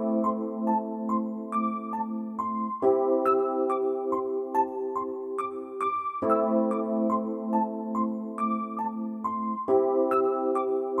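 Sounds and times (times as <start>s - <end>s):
soft keyboard chords music: 0.0s - 11.0s.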